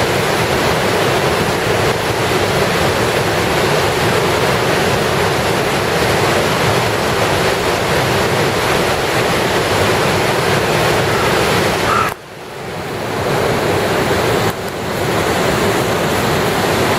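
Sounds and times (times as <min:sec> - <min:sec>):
floodwater rushing over weir: 0:00.0 - 0:16.9.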